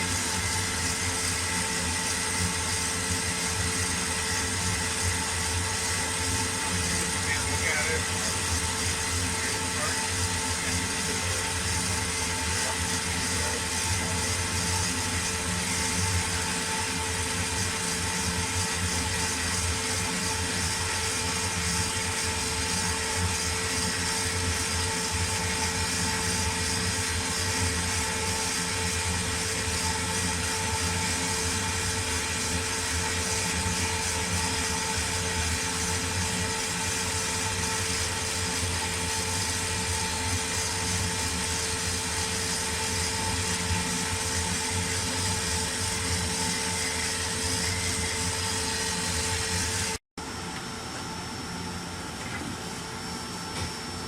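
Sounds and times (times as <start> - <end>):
machine hum with whine and hiss: 0.0 - 54.0.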